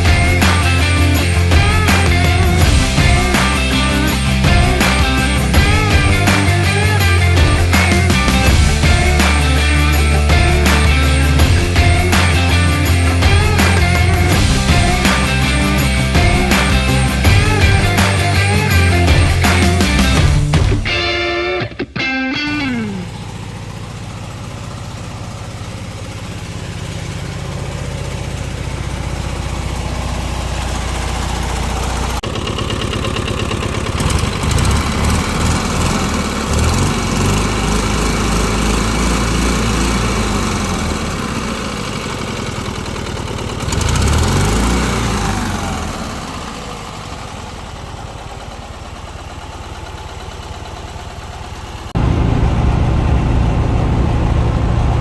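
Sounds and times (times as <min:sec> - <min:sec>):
small car engine running: 0:00.0 - 0:20.9, 0:22.5 - 0:55.0.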